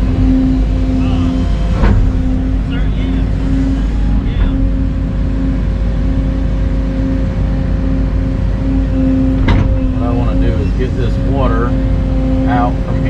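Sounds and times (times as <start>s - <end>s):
excavator diesel engine droning: 0.0s - 13.0s.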